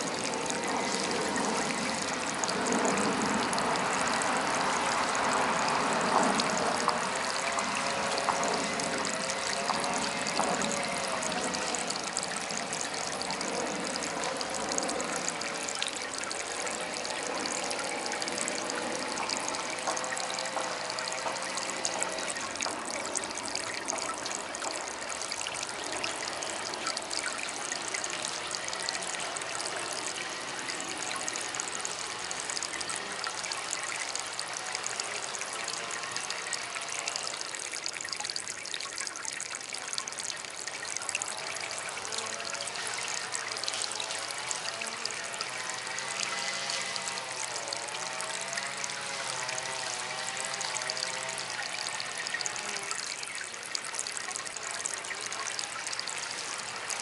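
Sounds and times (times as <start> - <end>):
fountain water trickling: 0.0 - 57.0.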